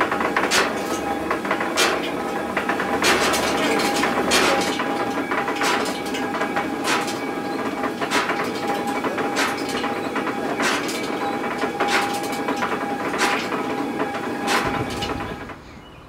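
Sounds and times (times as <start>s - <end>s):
millstones grinding rumble: 0.0s - 15.6s.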